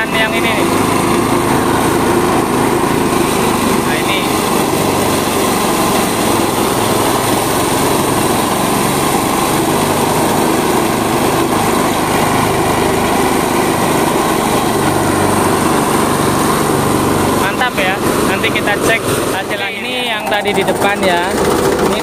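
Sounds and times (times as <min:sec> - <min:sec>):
rice thresher engine running: 0:00.0 - 0:22.0.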